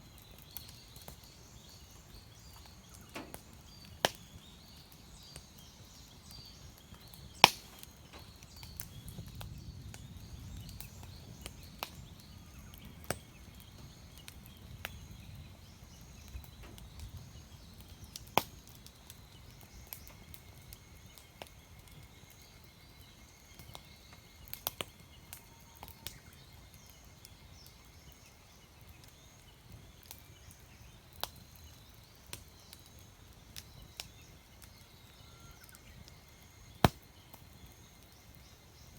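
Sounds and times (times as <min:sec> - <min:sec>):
campfire crackling and popping: 0:00.0 - 0:38.9
faint birds chirping: 0:00.0 - 0:38.9.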